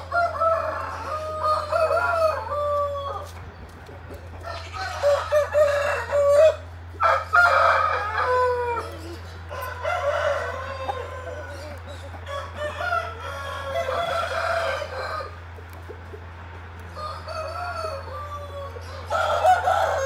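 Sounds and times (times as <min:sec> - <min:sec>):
chickens clucking: 0:00.0 - 0:20.0
roosters crowing: 0:00.0 - 0:20.0.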